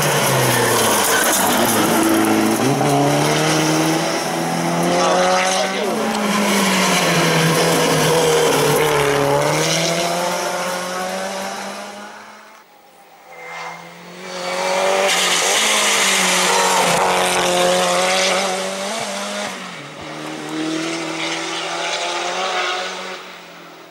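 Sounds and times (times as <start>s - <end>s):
race car engine at high revs: 0.0s - 23.9s.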